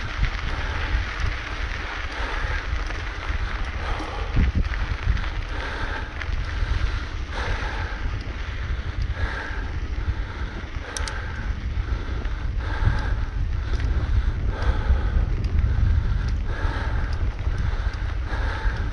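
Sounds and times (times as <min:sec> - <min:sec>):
bike tyres crunching over dirt: 0:00.0 - 0:18.9
wind rumbling on microphone: 0:00.0 - 0:18.9.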